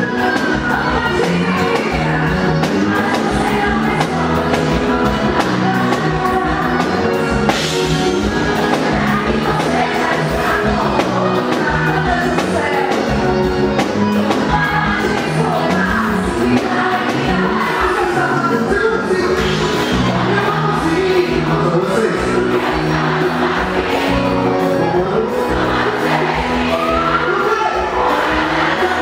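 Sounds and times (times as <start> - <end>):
live band playing: 0.0 - 29.0
person singing: 0.0 - 29.0.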